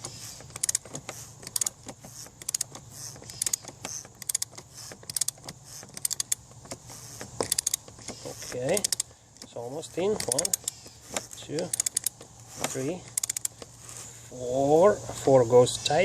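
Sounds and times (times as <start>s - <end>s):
ratchet wrench clicking: 0.0s - 13.6s.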